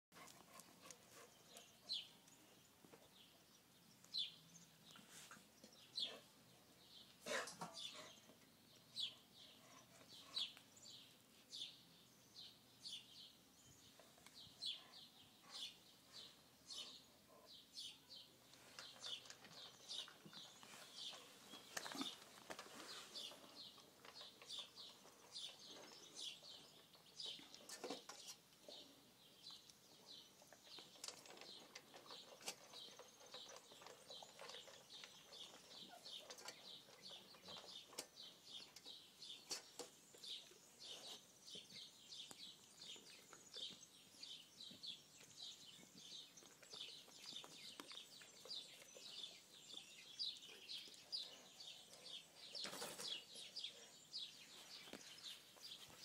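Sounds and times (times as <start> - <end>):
small birds chirping: 0.2 - 56.0.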